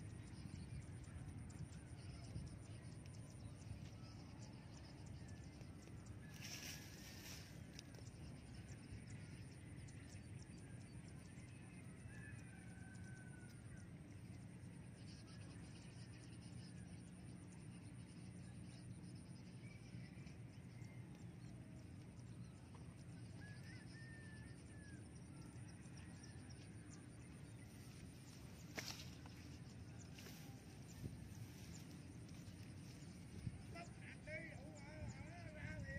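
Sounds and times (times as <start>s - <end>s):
low background noise: 0.0s - 35.9s.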